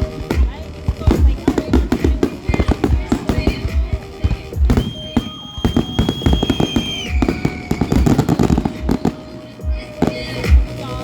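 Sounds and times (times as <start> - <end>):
fireworks deep booms: 0.0 - 10.9
fireworks crackling pops: 0.0 - 11.0.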